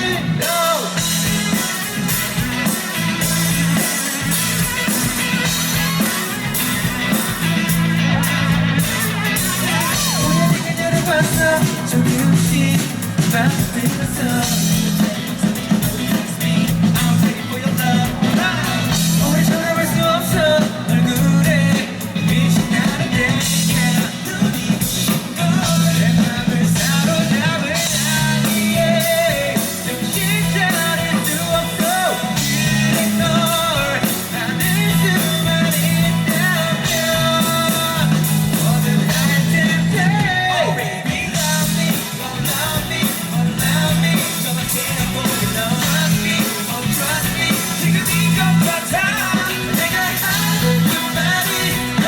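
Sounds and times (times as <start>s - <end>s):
bass guitar: 0.0s - 52.0s
drum kit playing a steady beat: 0.0s - 52.0s
electric guitar: 0.0s - 52.0s
lead singer's voice: 0.0s - 52.0s.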